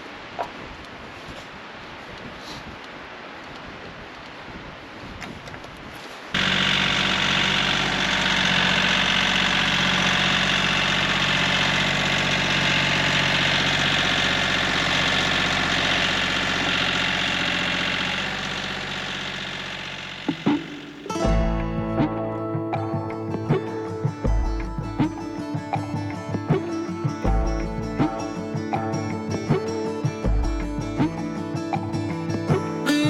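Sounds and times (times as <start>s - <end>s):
tractor engine running: 6.4s - 33.0s.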